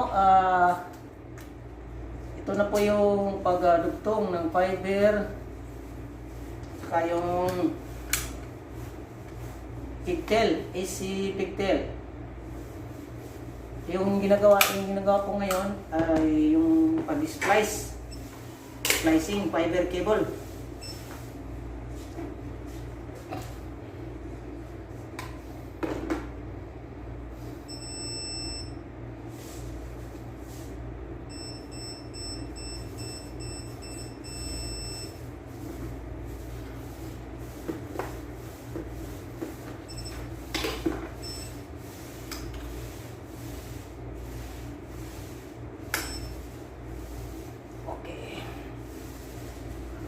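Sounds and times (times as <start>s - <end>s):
machine steady low hum: 0.0s - 50.0s.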